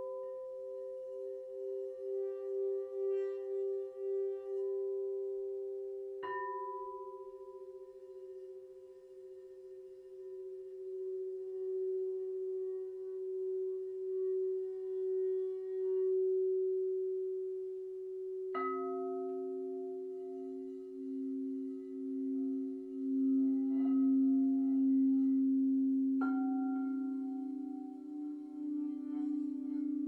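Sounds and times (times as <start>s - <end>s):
singing bowls ringing: 0.0s - 30.0s.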